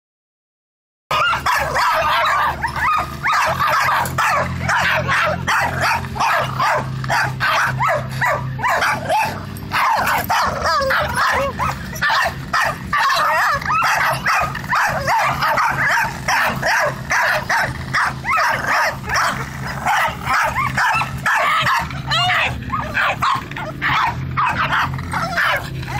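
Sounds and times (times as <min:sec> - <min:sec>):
small dogs barking and yipping: 0:01.1 - 0:25.9.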